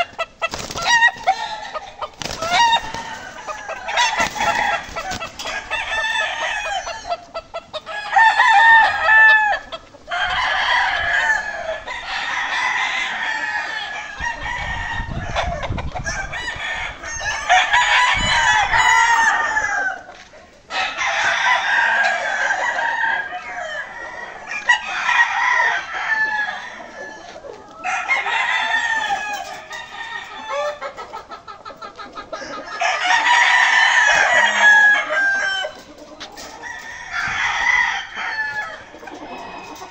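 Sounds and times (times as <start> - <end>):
roosters crowing: 0.0 - 39.9.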